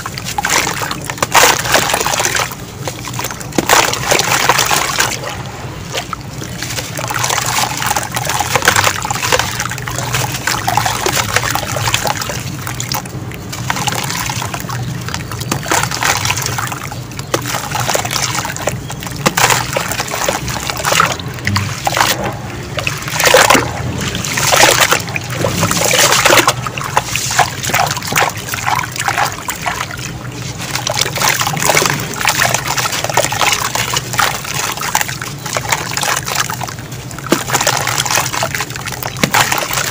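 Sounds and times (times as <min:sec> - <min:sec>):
hands squelching through wet mud: 0:00.0 - 0:39.9
water splashing and sloshing: 0:00.0 - 0:39.9
wet grit dribbling into water: 0:00.0 - 0:39.9.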